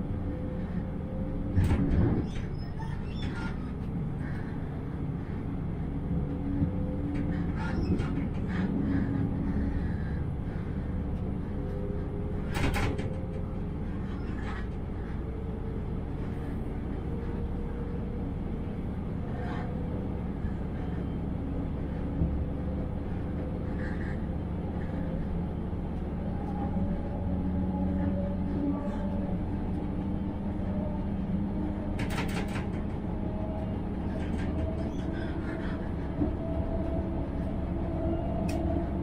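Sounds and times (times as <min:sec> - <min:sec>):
diesel railcar engine drone: 0:00.0 - 0:39.0
wheels rumbling on rails: 0:00.0 - 0:39.0.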